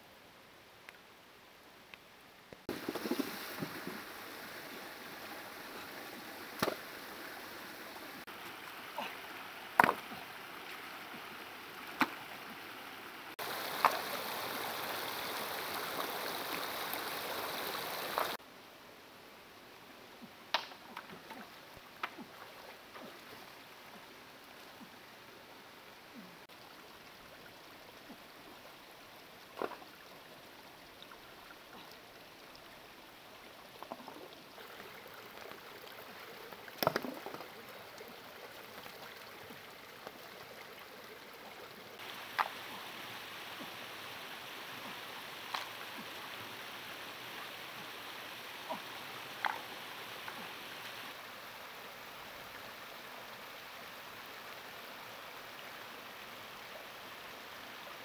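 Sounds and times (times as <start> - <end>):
rocky stream rushing: 2.6 - 18.4, 20.9 - 58.0.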